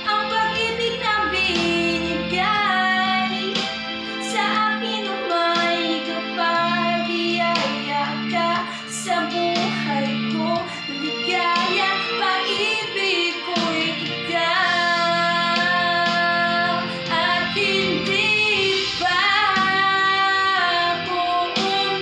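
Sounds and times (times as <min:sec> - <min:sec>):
recorded instrumental accompaniment: 0:00.0 - 0:22.0.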